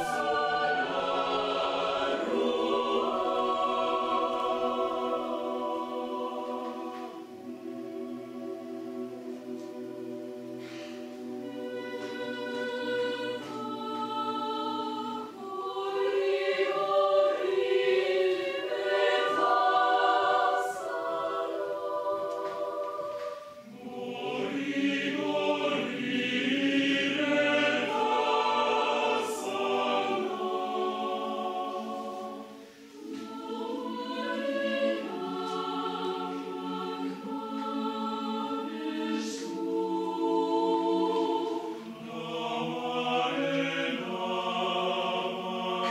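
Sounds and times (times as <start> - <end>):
mixed choir singing: 0.0 - 45.9.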